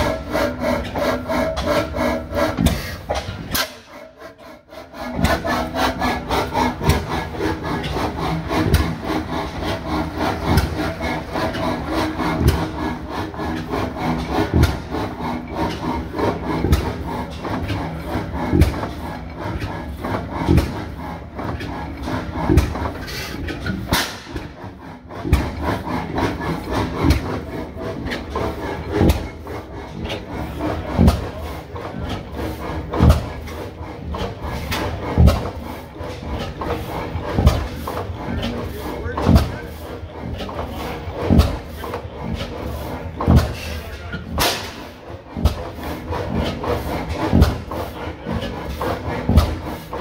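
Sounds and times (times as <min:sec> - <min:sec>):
stationary gas engine clattering: 0:00.0 - 0:50.0
heavy engine knock: 0:05.1 - 0:50.0.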